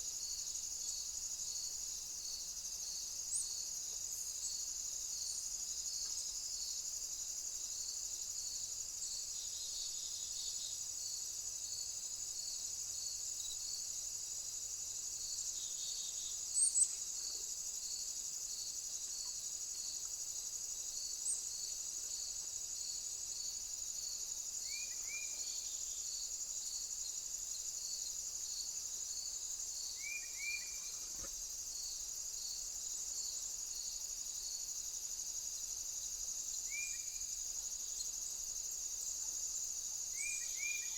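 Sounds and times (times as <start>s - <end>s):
cricket chirping: 0.0s - 40.9s
high-pitched insect chorus: 0.0s - 40.9s.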